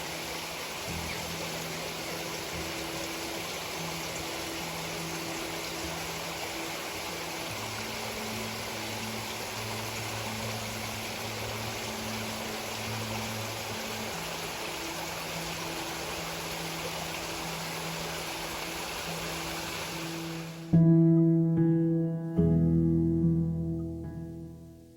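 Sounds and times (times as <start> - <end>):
stream water rushing: 0.0 - 20.7
soft background music: 0.0 - 24.9.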